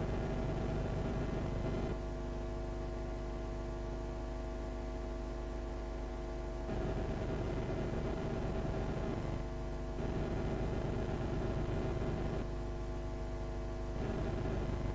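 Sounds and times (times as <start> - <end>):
electrical hum and buzz: 0.0 - 14.9.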